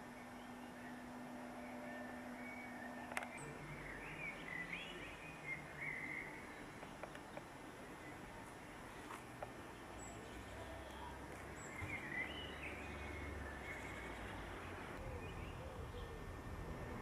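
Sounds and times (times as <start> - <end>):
faint bird chirps: 0.0 - 16.3.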